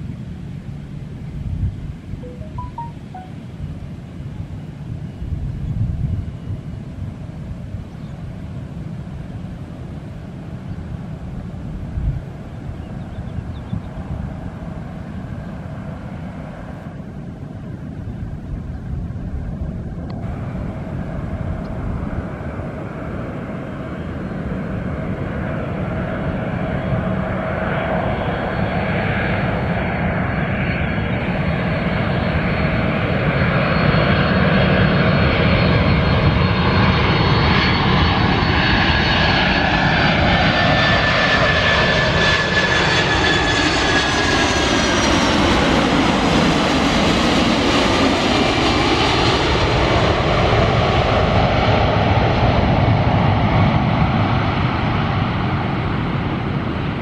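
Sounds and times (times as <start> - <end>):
jet roar with fan whine: 0.0 - 57.0.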